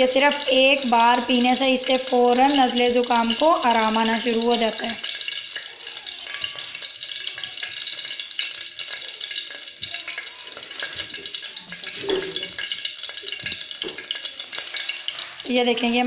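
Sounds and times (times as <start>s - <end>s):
ghee sizzling in a saucepan: 0.0s - 16.0s.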